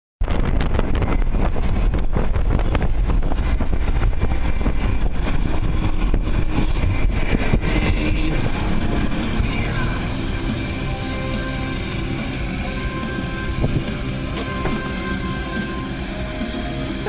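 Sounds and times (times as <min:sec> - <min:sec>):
train rumbling and clattering: 0:00.2 - 0:17.0.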